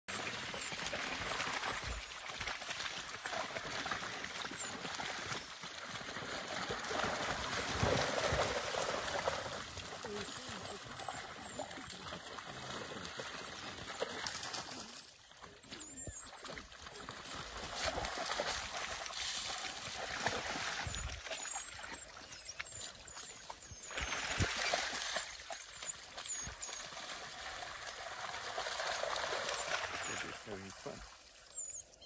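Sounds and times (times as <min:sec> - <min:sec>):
animals splashing through water: 0:00.1 - 0:31.6.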